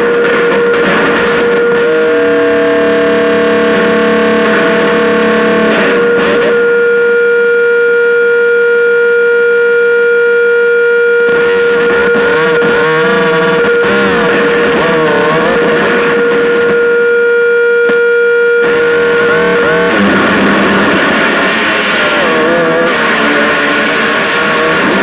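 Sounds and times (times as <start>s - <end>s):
electronic feedback drone: 0.0s - 25.0s.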